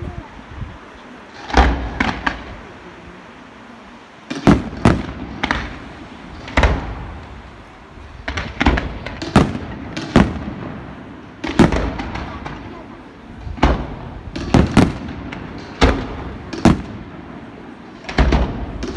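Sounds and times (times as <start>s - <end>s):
fireworks bangs: 0.0s - 3.4s, 4.2s - 18.9s.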